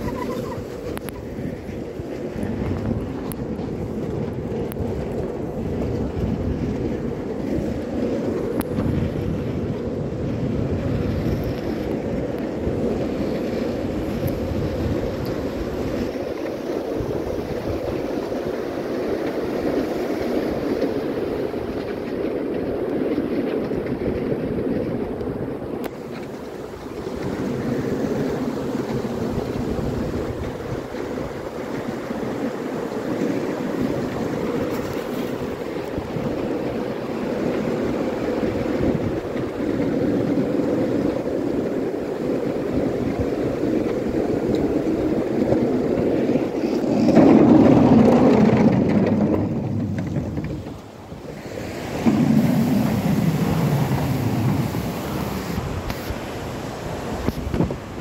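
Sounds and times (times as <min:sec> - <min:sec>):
skateboard wheels rolling on pavement: 0:00.0 - 0:58.0
wind on microphone: 0:00.0 - 0:58.0.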